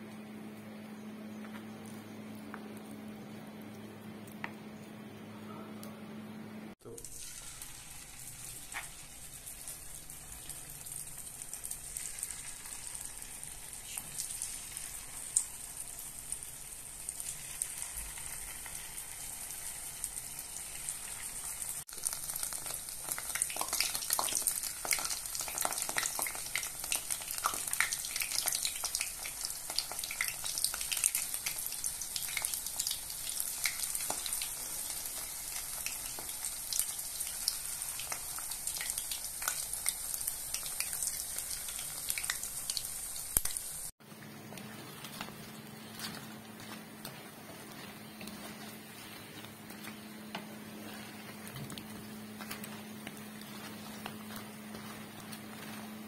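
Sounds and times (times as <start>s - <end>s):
dough frying in hot oil: 6.8s - 56.0s.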